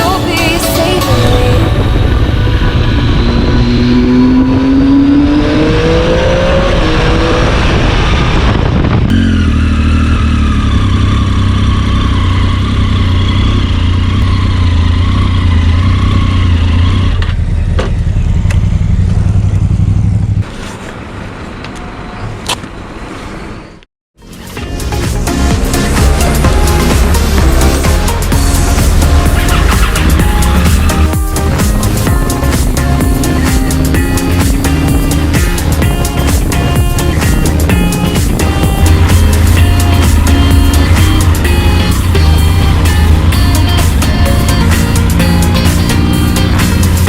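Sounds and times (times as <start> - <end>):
motorcycle engine revving: 0.0 - 20.6, 24.8 - 47.0.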